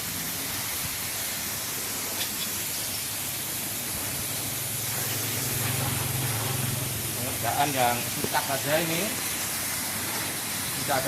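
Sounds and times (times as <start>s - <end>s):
water spray hissing: 0.0s - 11.0s.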